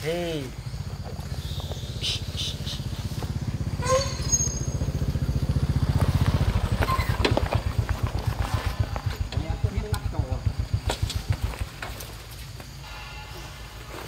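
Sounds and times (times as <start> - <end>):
small engine idling: 0.1 - 12.8.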